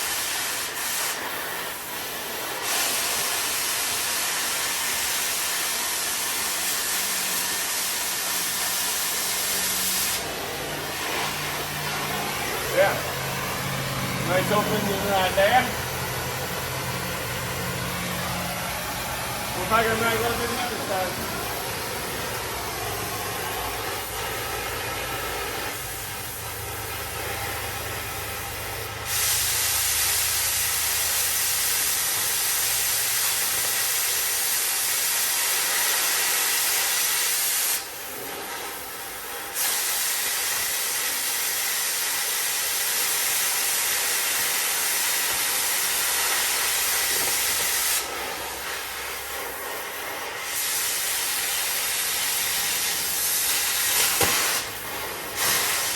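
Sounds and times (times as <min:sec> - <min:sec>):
cutting torch hissing: 0:00.0 - 0:55.9.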